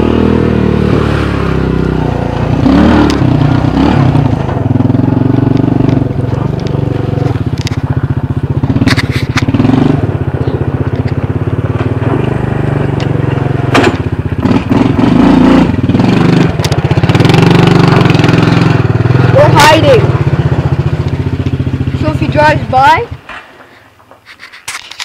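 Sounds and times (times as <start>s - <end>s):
atv engine running: 0.0s - 23.6s.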